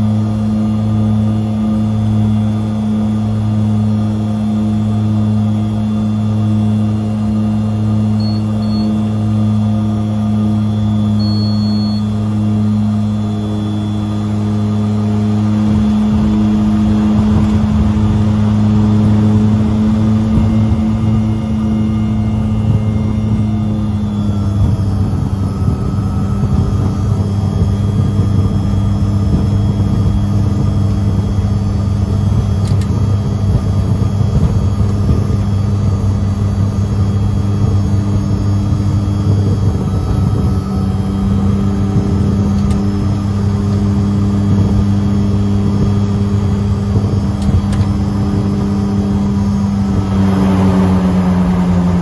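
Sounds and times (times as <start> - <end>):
turboprop engines droning: 0.0 - 52.0.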